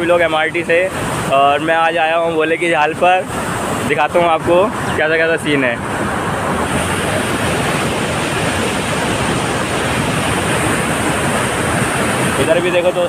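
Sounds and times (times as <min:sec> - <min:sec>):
churning white water rushing: 0:00.0 - 0:13.0.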